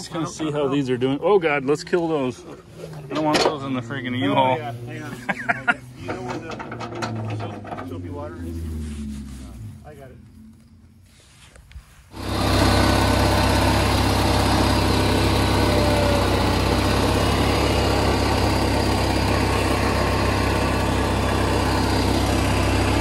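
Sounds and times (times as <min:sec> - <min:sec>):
engine running steadily: 0:02.0 - 0:10.8, 0:12.1 - 0:23.0.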